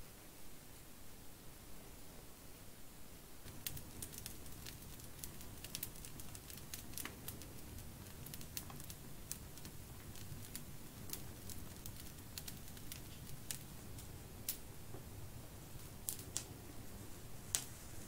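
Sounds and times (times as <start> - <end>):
wood fire crackling and popping: 3.4 - 18.0.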